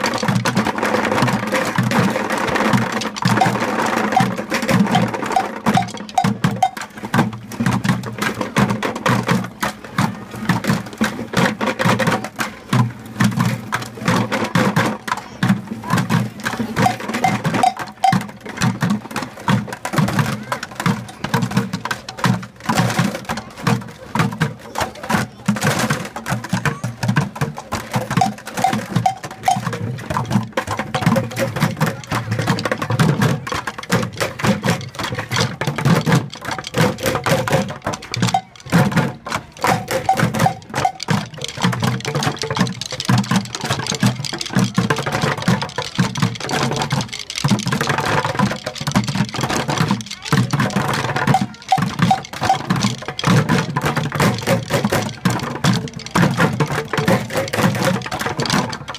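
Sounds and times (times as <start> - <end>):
drumsticks beating plastic buckets: 0.0 - 58.9.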